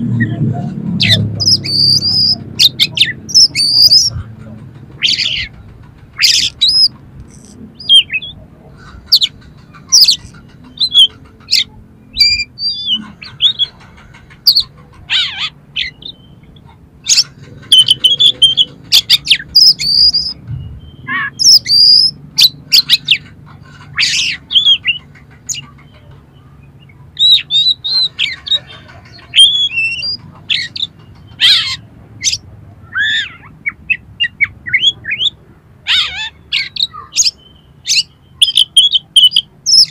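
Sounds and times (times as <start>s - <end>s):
bird singing harsh calls and whistles: 1.0s - 4.3s, 5.0s - 39.9s.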